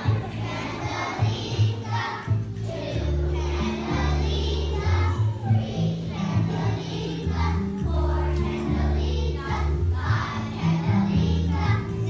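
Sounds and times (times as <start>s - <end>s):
children's choir singing: 0.0s - 12.0s
instrumental accompaniment: 0.0s - 12.0s.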